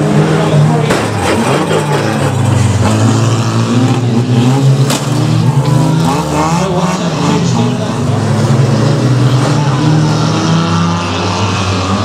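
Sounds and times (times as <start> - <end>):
cars crashing: 0.0 - 12.0
race car engines revving: 0.0 - 12.0.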